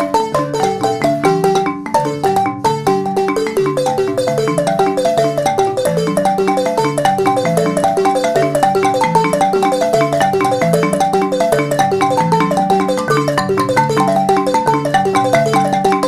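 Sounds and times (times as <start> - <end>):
marimba-like mallet melody: 0.0 - 16.0.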